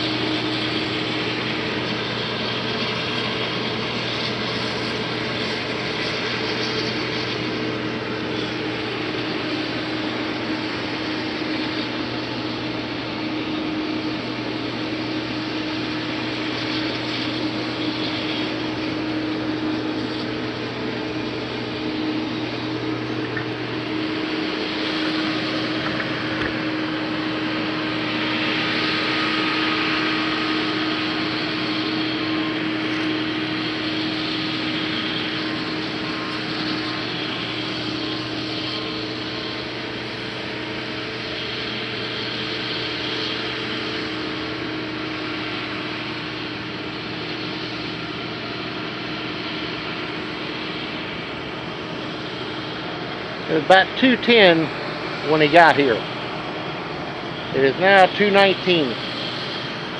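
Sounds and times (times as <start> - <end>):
combine harvester humming: 0.0 - 59.9.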